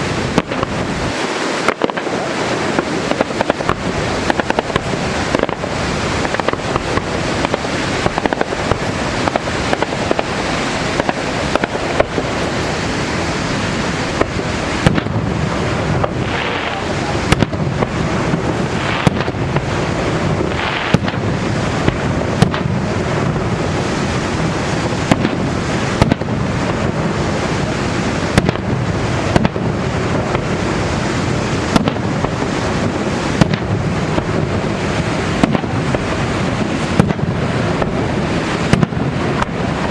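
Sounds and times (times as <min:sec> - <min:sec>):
constant rushing roar: 0:00.0 - 0:39.9
fireworks bangs and crackles: 0:00.0 - 0:39.9.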